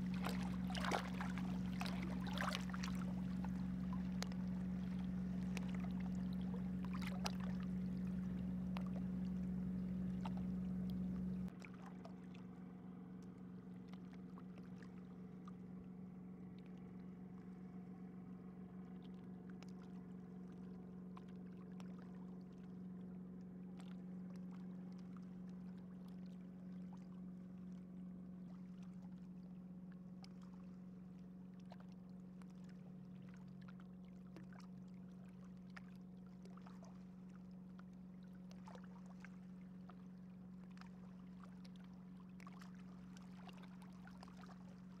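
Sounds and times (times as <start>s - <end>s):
water splashing against hull: 0.0s - 12.8s, 18.7s - 45.0s
boat motor humming: 0.0s - 30.2s, 32.2s - 45.0s.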